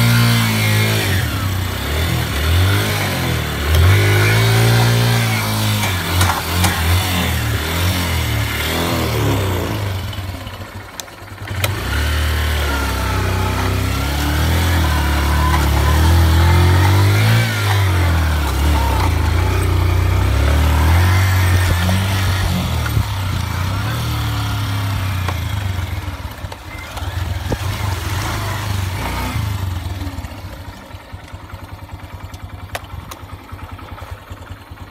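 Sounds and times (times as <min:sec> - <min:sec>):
off-road vehicle engine running: 0:00.0 - 0:34.9.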